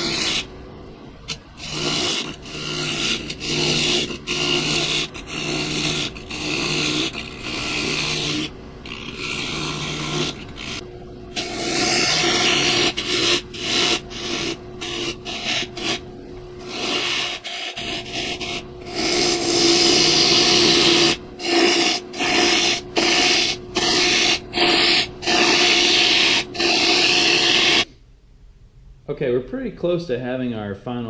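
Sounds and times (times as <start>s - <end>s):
gouge hissing cuts on wood: 0.0s - 0.5s, 1.3s - 16.0s, 16.6s - 27.9s
lathe humming: 0.0s - 0.6s, 1.3s - 27.9s.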